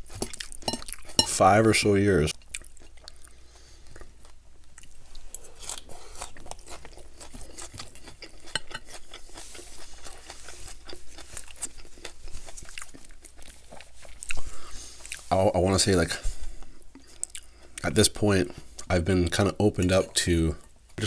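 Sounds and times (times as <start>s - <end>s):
crunchy chewing of salad: 0.0s - 1.4s, 2.3s - 15.8s, 16.4s - 18.9s.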